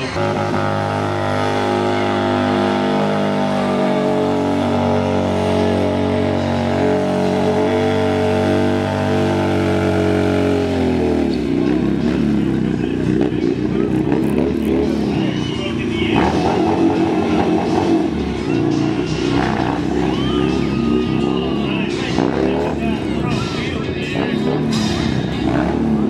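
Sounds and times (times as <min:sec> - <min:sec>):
motorcycle engine revving high: 0:00.0 - 0:26.0
tire spinning on concrete: 0:00.0 - 0:26.0.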